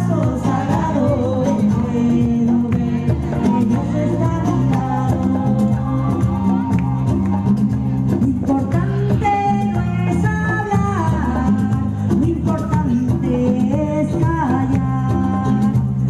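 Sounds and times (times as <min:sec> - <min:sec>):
folk band playing: 0:00.0 - 0:16.0
percussive beat: 0:00.0 - 0:16.0
person singing: 0:00.0 - 0:16.0.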